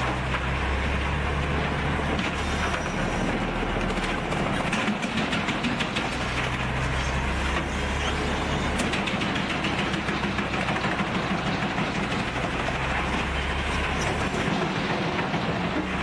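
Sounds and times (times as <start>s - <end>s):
diesel engine drone: 0.0s - 16.0s.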